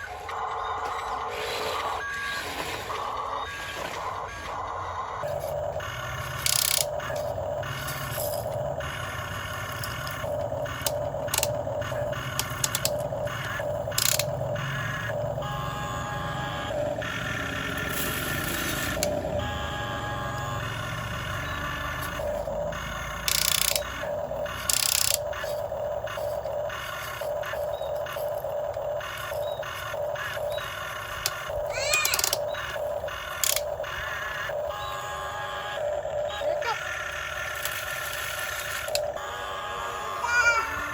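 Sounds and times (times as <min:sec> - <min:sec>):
toy motors and gears whirring: 0:00.0 - 0:40.9.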